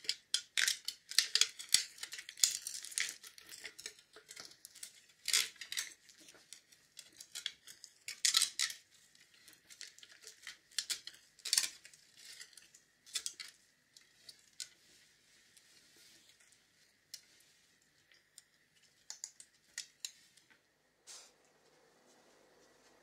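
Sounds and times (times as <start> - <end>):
aluminium foil crinkling: 0.0 - 20.6.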